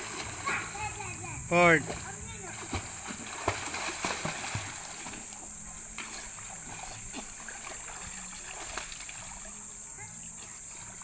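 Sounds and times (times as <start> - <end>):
swimmer splashing in pool: 0.0 - 9.7
steady high hiss: 0.0 - 11.0.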